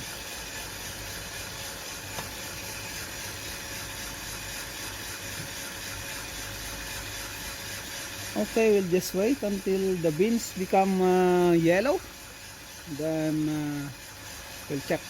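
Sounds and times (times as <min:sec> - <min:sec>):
roaster fan rushing: 0:00.0 - 0:15.0.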